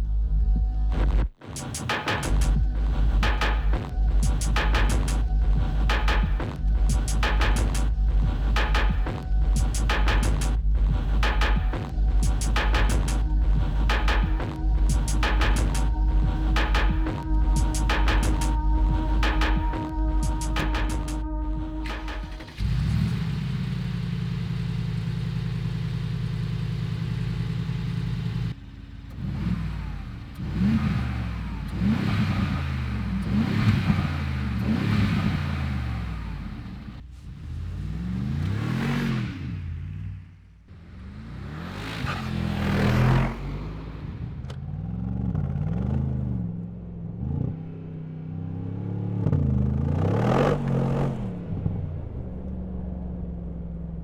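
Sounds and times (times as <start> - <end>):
car engine revving: 0.3 - 54.0.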